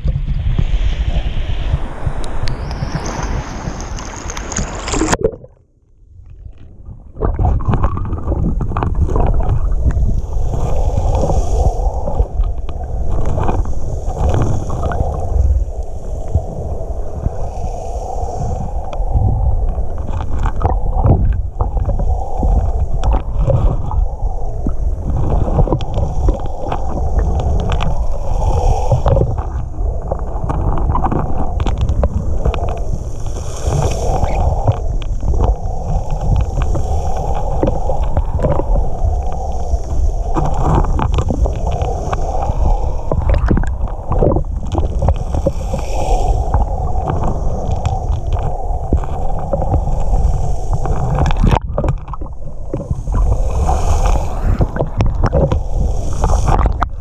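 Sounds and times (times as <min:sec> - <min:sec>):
muffled underwater rumble and gurgling: 0:00.0 - 0:57.0
water and wind noise: 0:00.0 - 0:57.0.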